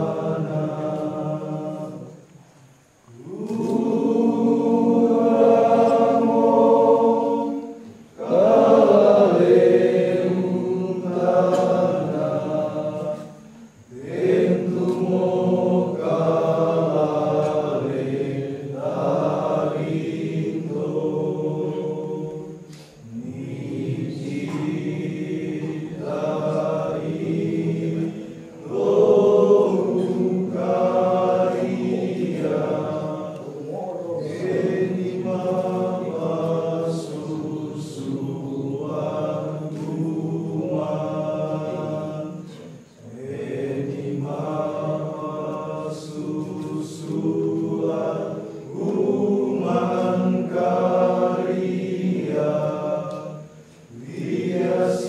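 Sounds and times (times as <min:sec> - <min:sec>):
men chanting together: 0:00.0 - 0:02.3, 0:03.1 - 0:55.0.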